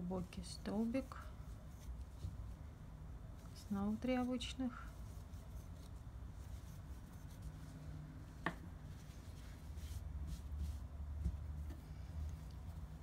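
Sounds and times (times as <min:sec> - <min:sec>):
crochet hook rubbing cord: 0:00.0 - 0:13.0
low steady hum: 0:00.0 - 0:13.0.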